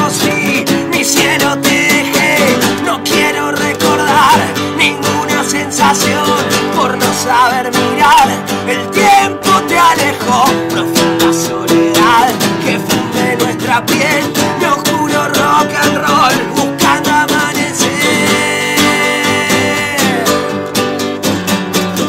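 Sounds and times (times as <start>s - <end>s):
strummed acoustic guitars: 0.0s - 22.0s
wavering melody line: 2.1s - 21.0s.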